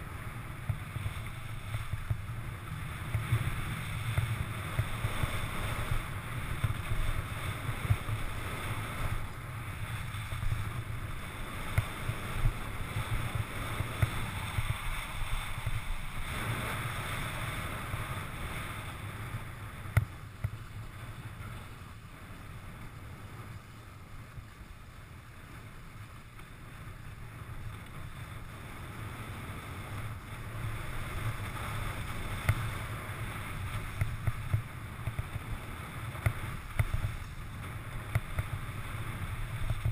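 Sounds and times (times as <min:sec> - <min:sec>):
wind buffeting microphone: 0:00.0 - 0:21.6, 0:27.0 - 0:39.9
skis scraping over snow: 0:00.0 - 0:39.9.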